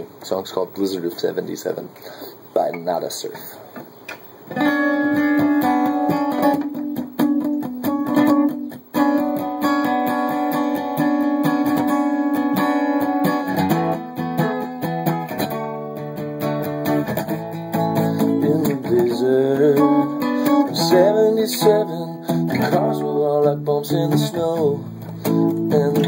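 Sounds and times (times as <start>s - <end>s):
acoustic guitar strumming: 3.8s - 26.0s.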